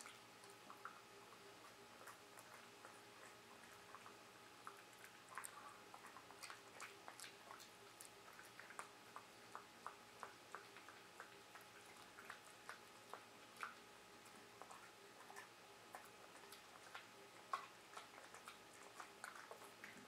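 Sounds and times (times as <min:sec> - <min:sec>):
dog chewing: 0:00.0 - 0:20.0.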